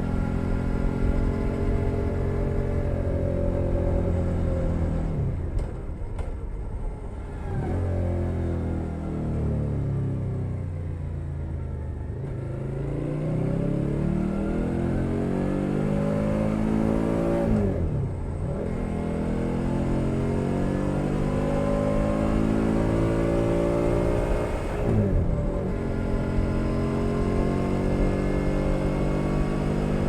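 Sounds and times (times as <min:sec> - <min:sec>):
motorcycle engine accelerating: 0:00.0 - 0:06.4, 0:07.3 - 0:30.0.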